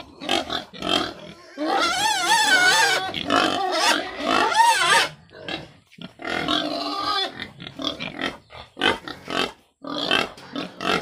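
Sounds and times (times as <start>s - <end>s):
pigs squealing: 0.0s - 11.0s.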